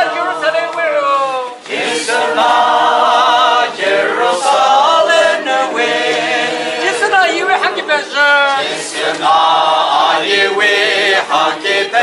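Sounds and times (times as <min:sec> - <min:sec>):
crowd singing without instruments: 0:00.0 - 0:12.0.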